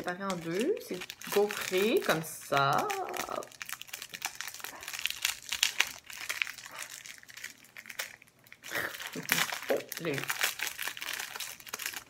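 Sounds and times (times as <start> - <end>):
wrapper crinkling: 0.0 - 12.0.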